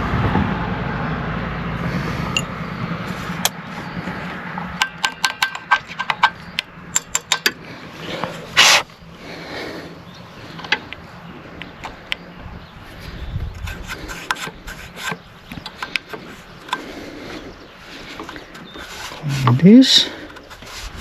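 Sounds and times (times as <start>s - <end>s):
steady rumble: 0.0s - 21.0s.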